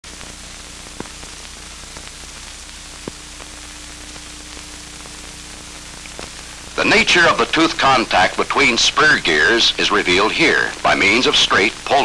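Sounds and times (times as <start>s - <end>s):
film soundtrack hiss and hum: 0.0s - 12.0s.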